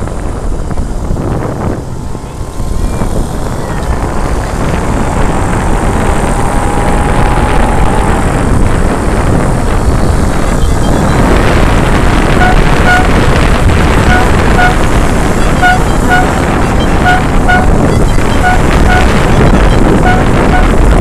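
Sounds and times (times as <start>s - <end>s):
moped engines running: 0.0s - 21.0s
wind buffeting microphone: 0.0s - 21.0s
horn tooting: 1.4s - 21.0s.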